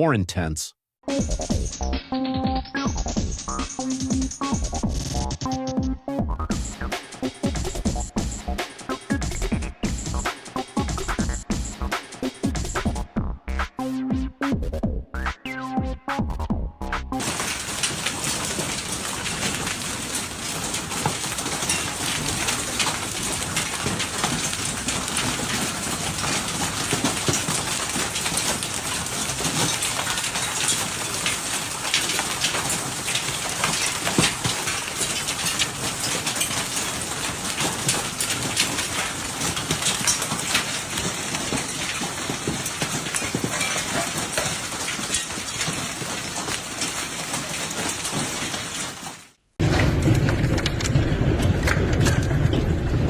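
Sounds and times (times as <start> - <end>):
rain rushing: 1.1 - 53.0
hail clattering on hard surfaces: 3.2 - 15.5, 16.2 - 53.0.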